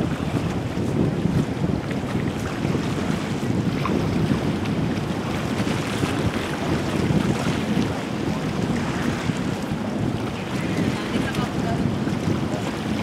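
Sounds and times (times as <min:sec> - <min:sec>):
boat engine rumble: 0:00.0 - 0:13.0
water wash: 0:00.0 - 0:13.0
wind buffeting microphone: 0:00.0 - 0:13.0.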